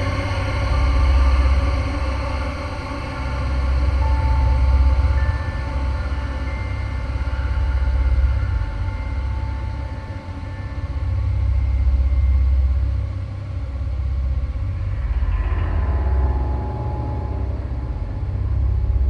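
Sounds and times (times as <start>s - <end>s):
deep rumbling drone: 0.0s - 19.0s.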